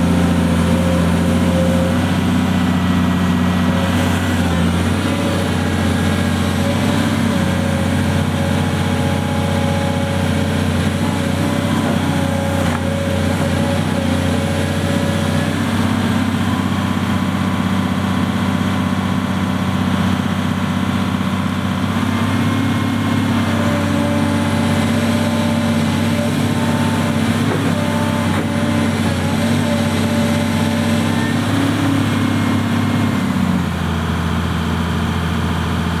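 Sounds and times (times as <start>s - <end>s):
hydraulic whine: 0.0s - 34.3s
excavator diesel engine: 0.0s - 36.0s.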